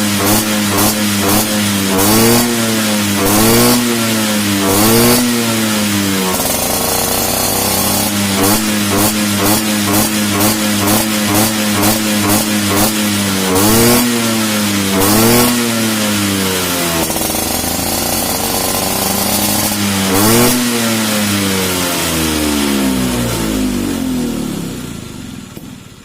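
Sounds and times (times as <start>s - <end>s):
scooter engine revving: 0.0s - 26.0s.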